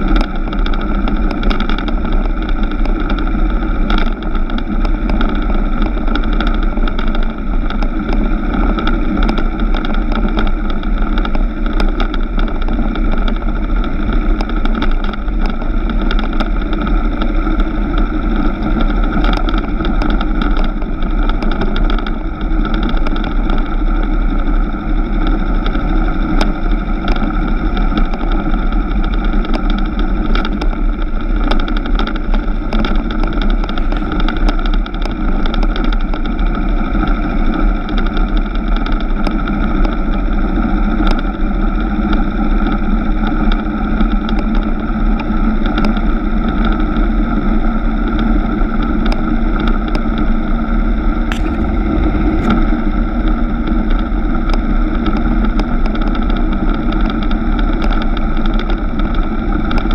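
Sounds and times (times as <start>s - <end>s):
motorcycle engine running: 0.0s - 43.1s, 48.4s - 59.6s.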